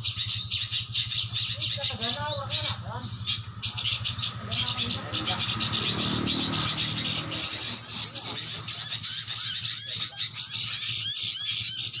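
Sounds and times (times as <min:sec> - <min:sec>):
steady low hum: 0:00.0 - 0:11.9
small birds chirping: 0:00.0 - 0:12.0.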